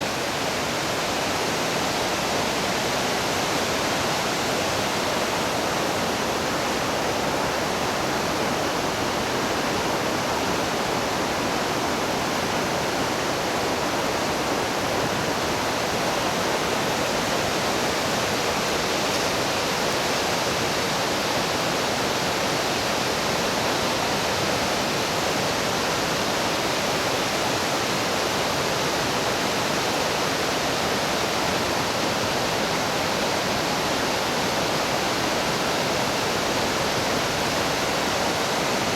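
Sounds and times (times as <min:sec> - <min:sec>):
creek rushing over rocks: 0:00.0 - 0:38.9.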